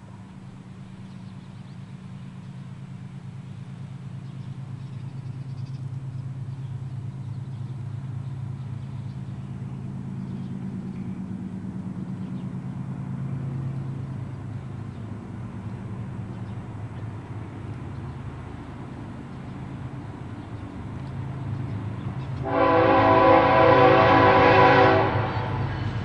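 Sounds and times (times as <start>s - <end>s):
diesel locomotive rumble: 0.0s - 26.0s.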